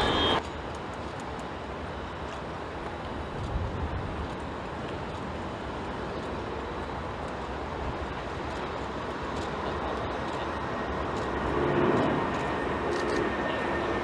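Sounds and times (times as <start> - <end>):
jet engine roar at takeoff: 0.0 - 14.0.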